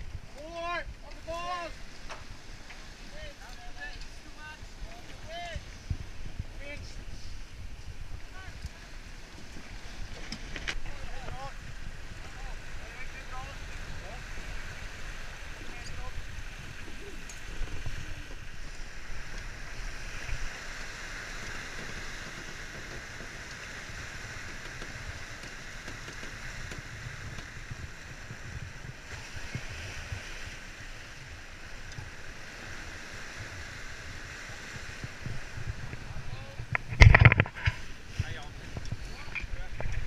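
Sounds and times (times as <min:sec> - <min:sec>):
water rushing along hull: 0:00.0 - 0:40.0
wind buffeting microphone: 0:00.0 - 0:40.0.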